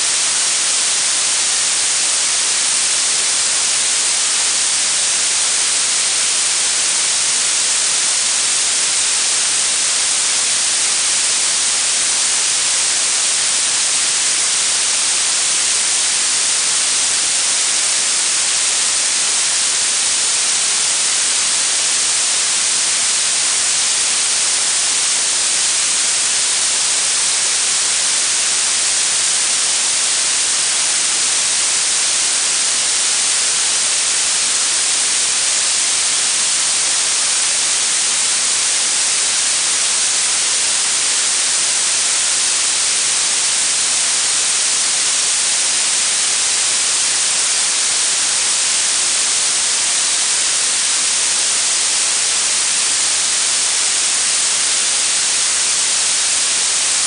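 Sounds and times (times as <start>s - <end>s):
steady treble-heavy hiss: 0.0s - 57.0s.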